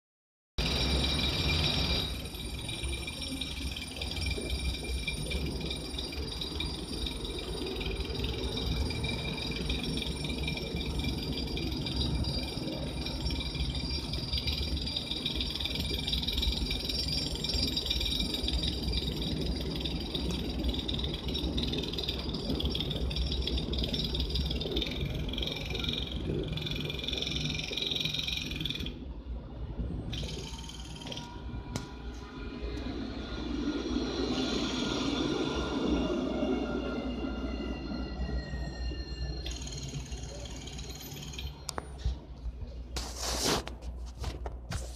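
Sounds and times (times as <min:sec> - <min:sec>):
tram rumbling with high whine: 0:00.6 - 0:43.0.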